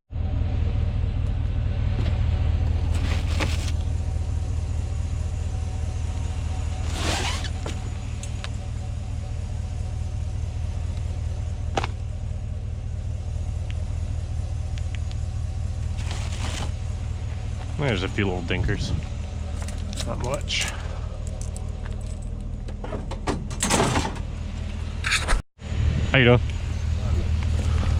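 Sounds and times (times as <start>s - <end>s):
truck engine and road rumble: 0.1s - 27.9s.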